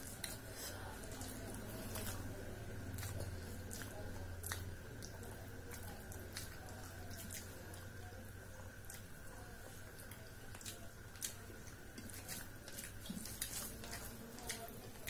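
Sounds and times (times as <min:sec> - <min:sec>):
food squishing by hand: 0:00.0 - 0:15.0
low steady hum: 0:00.0 - 0:15.0
wet chewing and lip-smacking: 0:00.0 - 0:15.0.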